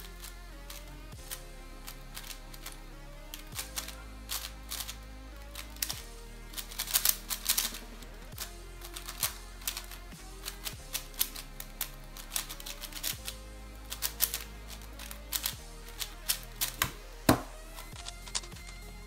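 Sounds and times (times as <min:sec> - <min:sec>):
background music: 0:00.0 - 0:19.0
plastic puzzle cube clacking: 0:00.0 - 0:19.0.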